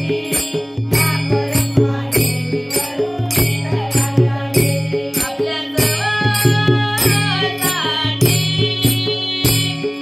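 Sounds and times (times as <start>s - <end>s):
hand cymbals clashing: 0.0s - 10.0s
harmonium: 0.0s - 10.0s
women singing devotional song: 0.0s - 10.0s.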